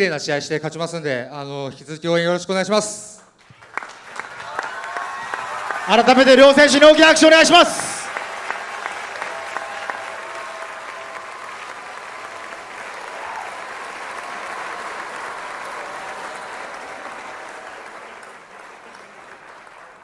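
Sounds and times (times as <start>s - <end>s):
audience clapping: 3.2s - 20.0s.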